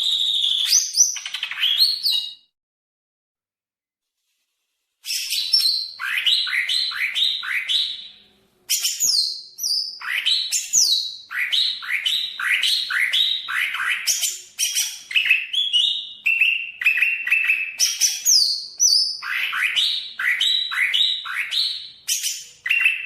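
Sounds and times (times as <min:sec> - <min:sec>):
bird singing whistled notes: 0:00.0 - 0:02.5, 0:05.0 - 0:23.0.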